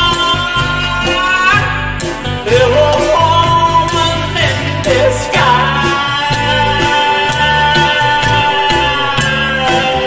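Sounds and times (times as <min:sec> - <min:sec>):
bass line: 0:00.0 - 0:10.0
steady drum beat: 0:00.0 - 0:10.0.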